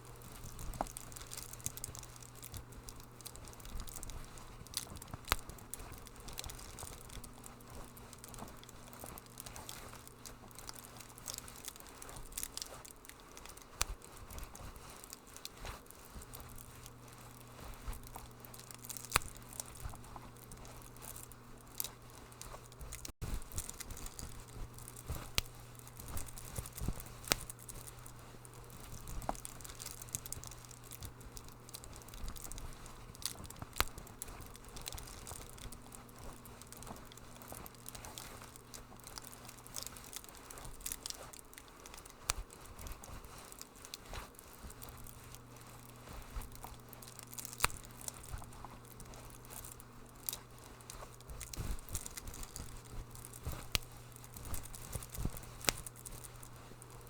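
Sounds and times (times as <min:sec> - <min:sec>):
steady low hum: 0:00.0 - 0:57.0
wood fire crackling: 0:00.0 - 0:57.0.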